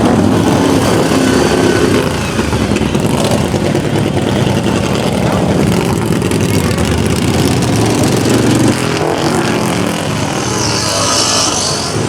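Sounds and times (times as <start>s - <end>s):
lawn mower engine running: 0.0s - 10.7s.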